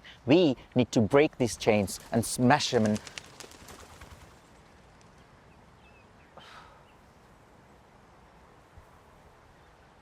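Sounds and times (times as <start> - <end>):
soft steady hiss: 0.0 - 10.0.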